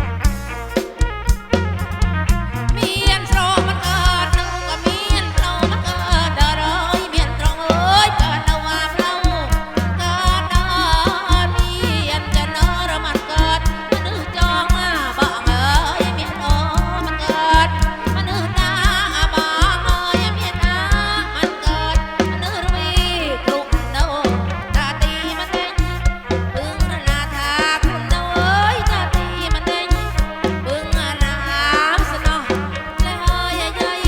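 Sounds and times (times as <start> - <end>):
folk band playing live: 0.0 - 34.0
heavy bass: 0.0 - 34.0
regular drum beat: 0.0 - 34.0.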